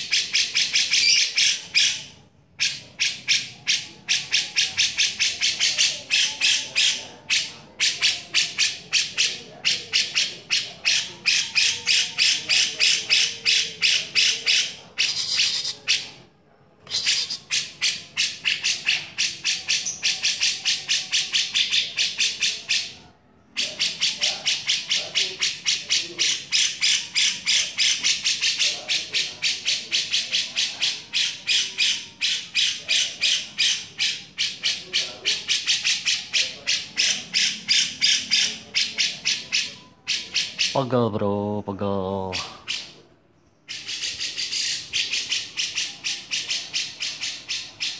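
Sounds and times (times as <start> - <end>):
bird harsh chattering call: 0.0 - 16.2, 16.8 - 40.9, 42.2 - 43.0, 43.7 - 47.9.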